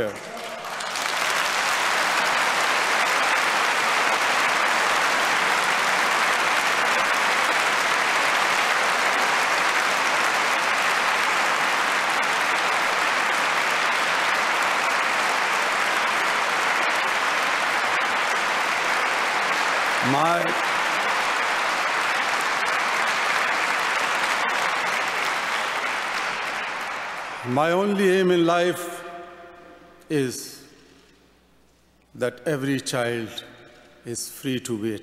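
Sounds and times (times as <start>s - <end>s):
audience applauding: 0.0s - 28.3s.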